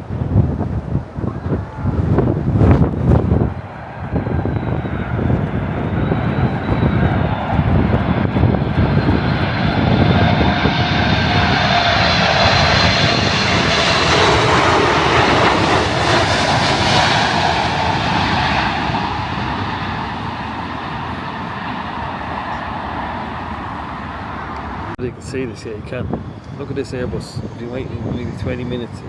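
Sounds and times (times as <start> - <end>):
jet plane passing overhead: 0.0 - 29.0.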